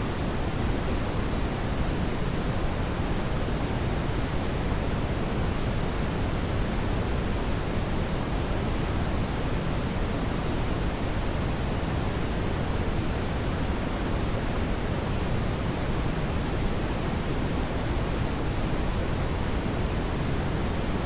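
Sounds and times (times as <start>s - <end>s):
brown noise hiss: 0.0s - 21.0s.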